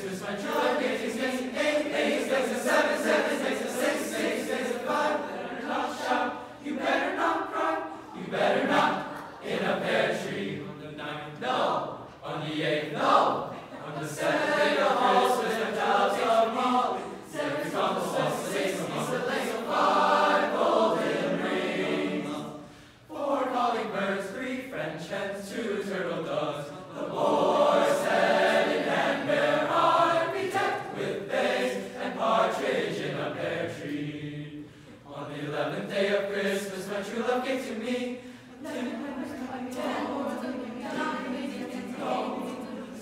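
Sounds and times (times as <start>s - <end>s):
men's choir singing a cappella: 0.0s - 43.0s.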